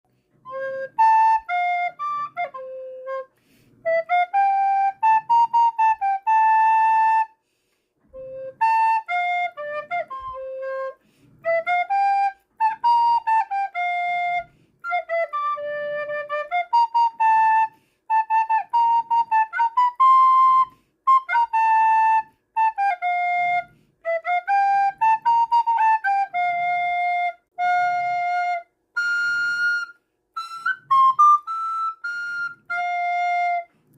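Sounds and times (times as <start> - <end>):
child playing recorder: 0.2 - 33.9.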